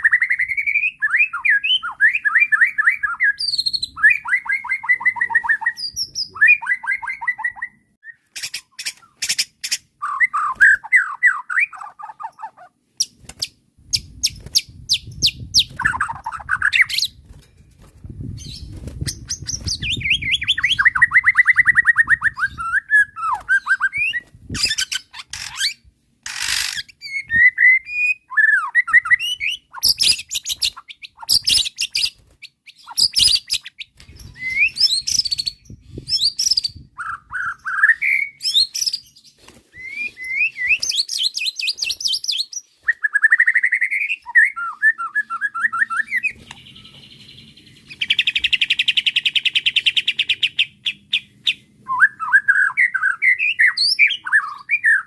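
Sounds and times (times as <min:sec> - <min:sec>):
songbird singing whistles and trills: 0:00.0 - 0:17.2, 0:18.3 - 0:55.0.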